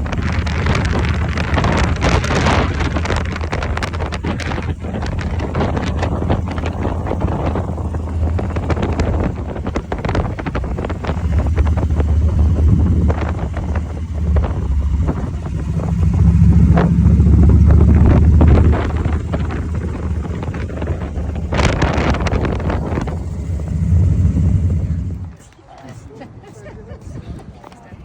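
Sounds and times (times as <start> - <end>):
vehicle engine rumble: 0.0 - 28.0
wind buffeting microphone: 0.0 - 28.0.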